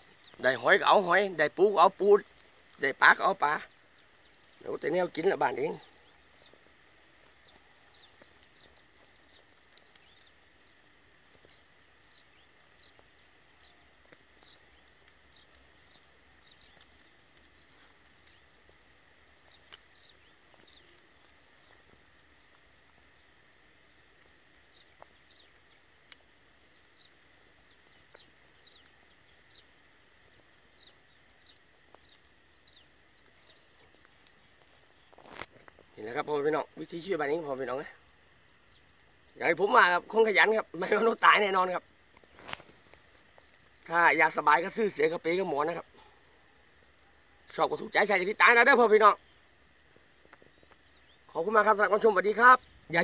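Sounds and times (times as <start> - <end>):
faint chirps and ticks: 0.0 - 53.0
thin insect hum: 0.0 - 53.0.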